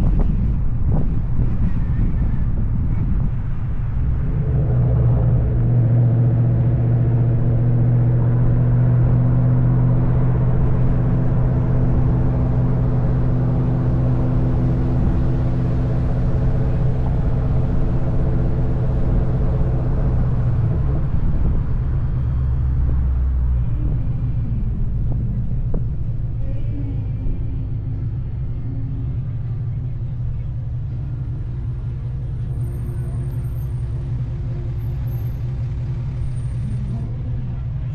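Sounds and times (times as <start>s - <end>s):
car engine droning: 0.0s - 37.9s.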